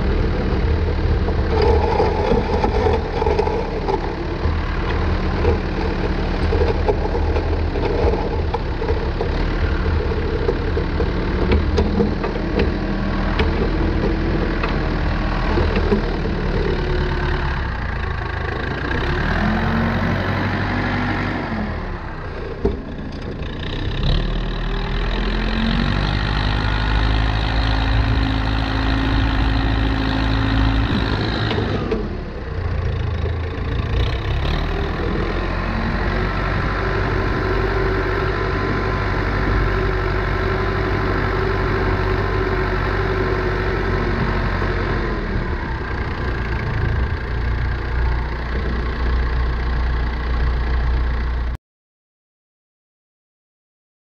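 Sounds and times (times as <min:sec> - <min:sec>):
diesel engine running: 0:00.0 - 0:51.6.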